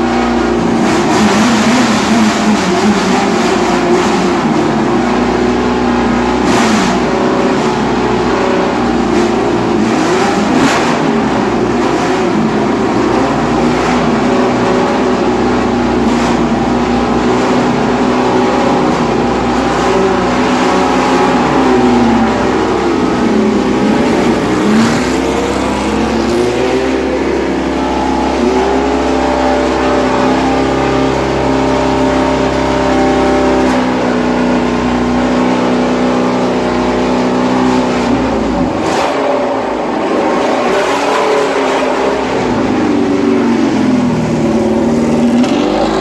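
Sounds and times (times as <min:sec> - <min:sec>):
race car engine revving: 0:00.0 - 0:46.0.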